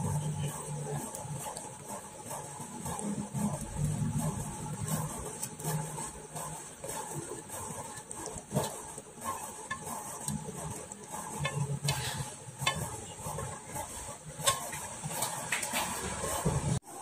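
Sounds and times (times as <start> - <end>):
spatula scraping a wok: 2.4 - 16.8.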